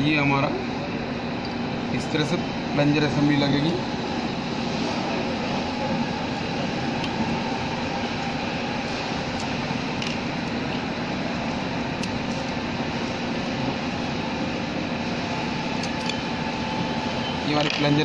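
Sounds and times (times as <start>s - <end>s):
background machinery drone: 0.0s - 18.0s.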